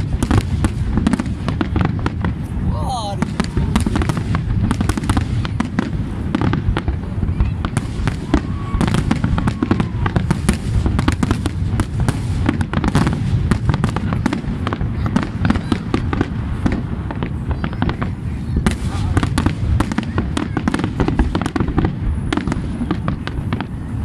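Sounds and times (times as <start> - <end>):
fireworks bursting and crackling: 0.0 - 24.0.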